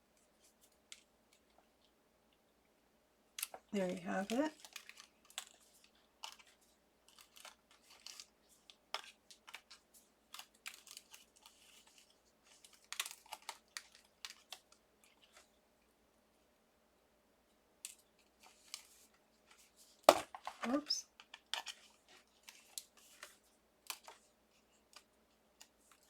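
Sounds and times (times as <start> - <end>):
rustling and crinkling of card: 0.0 - 2.0, 3.3 - 16.0, 17.5 - 26.0.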